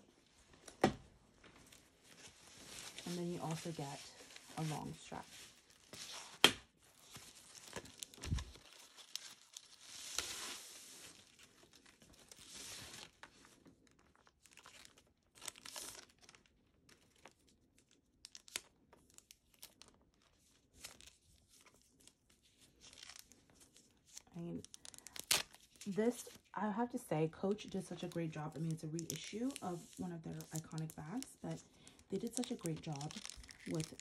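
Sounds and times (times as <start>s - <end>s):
packaging rustling and crinkling: 0.2s - 26.5s, 27.4s - 34.0s.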